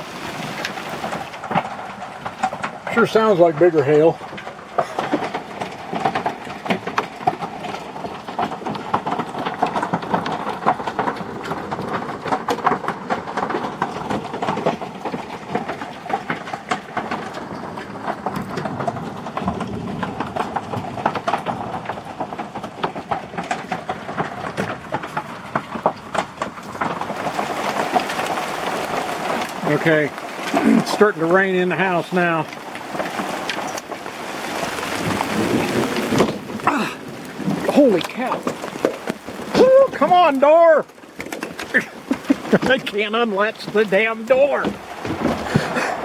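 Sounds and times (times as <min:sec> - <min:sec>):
hail drumming on a vehicle roof: 0:00.0 - 0:46.0.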